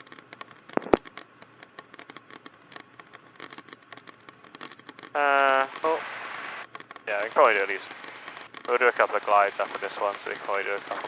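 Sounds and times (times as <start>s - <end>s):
sharp clicks: 0.0s - 11.0s
intercom crackle: 0.1s - 11.0s.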